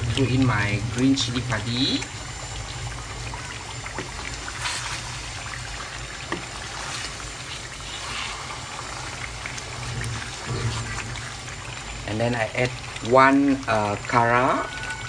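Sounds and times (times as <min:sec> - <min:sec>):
gravy bubbling in a pan: 0:00.0 - 0:15.0.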